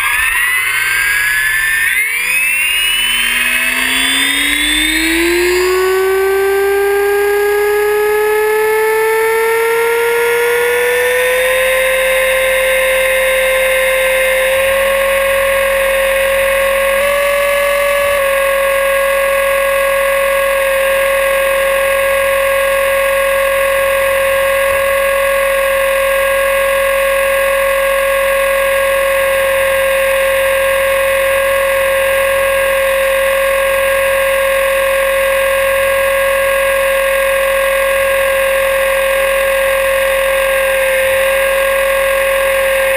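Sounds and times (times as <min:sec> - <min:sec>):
rc helicopter motor whine: 0:00.0 - 0:42.9.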